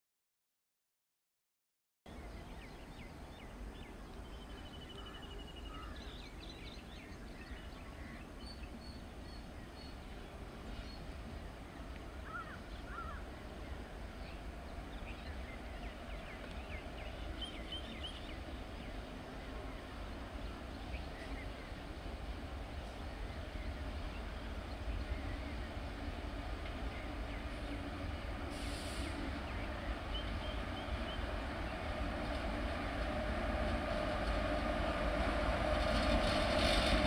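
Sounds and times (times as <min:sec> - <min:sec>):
birds chirping: 0:02.1 - 0:28.4, 0:29.3 - 0:33.0.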